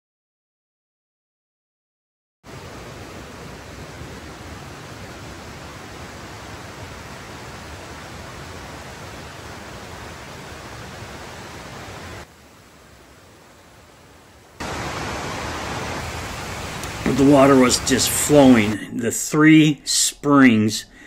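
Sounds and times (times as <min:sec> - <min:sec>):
stream rushing: 0:02.5 - 0:20.7.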